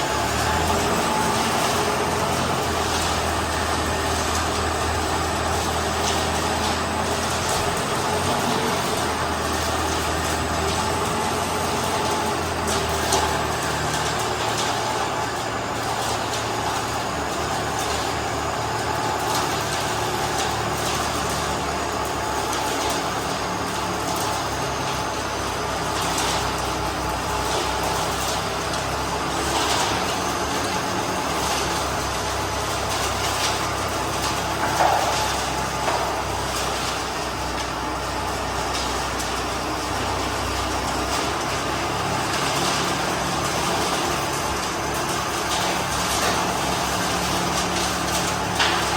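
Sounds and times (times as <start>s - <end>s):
concrete mixer engine running: 0.0s - 48.9s.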